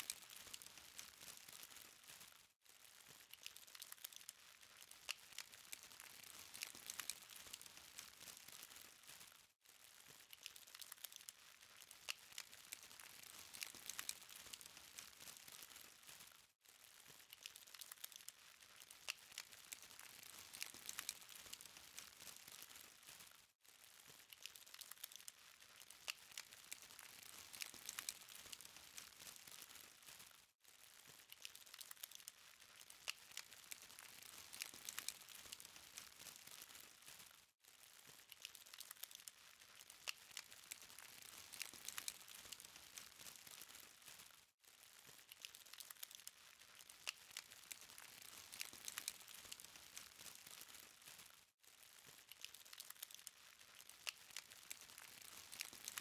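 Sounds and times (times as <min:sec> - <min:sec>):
charcoal fire crackling and popping: 0:00.0 - 0:56.0.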